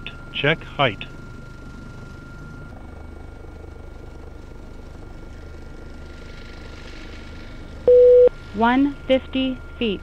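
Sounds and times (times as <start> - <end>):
helicopter cockpit low drone: 0.0 - 10.0.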